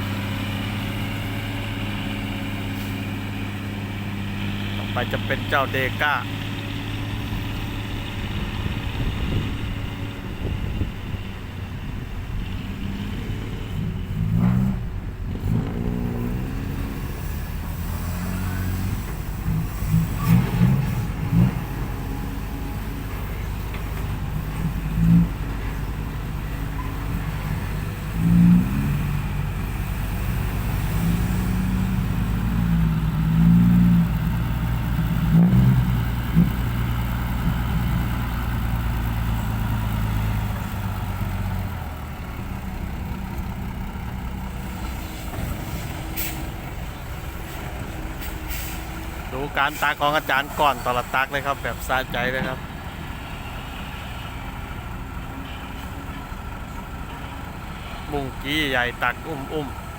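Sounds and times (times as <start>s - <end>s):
heavy diesel engines revving: 0.0s - 59.9s.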